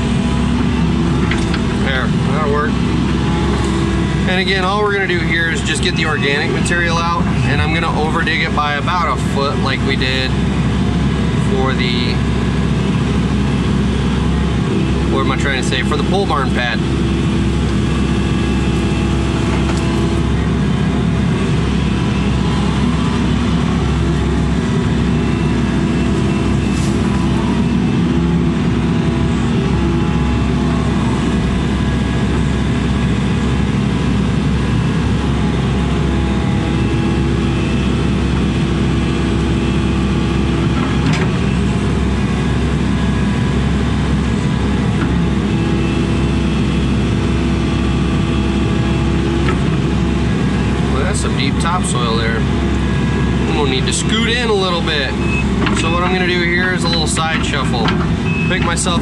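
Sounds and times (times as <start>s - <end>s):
excavator diesel engine running: 0.0s - 59.0s
hydraulics whining: 0.0s - 59.0s.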